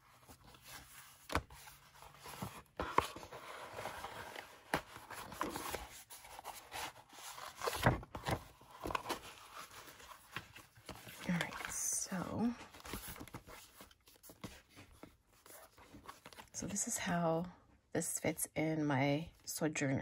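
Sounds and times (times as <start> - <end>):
paper notebook rustling: 0.0 - 16.6.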